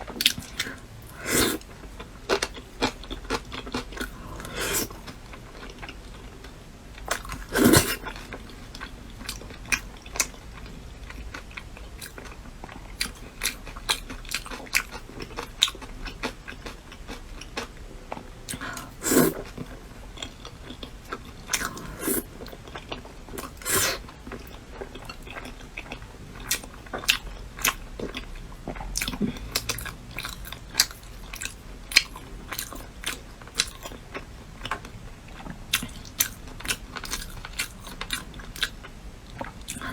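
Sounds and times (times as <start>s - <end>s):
person chewing crunchy food: 0.1s - 39.9s.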